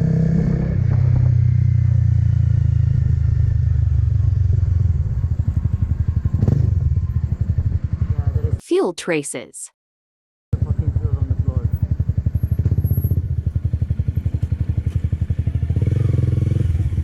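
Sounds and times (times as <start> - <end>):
motorcycle engine running: 0.0 - 8.6, 10.6 - 17.0.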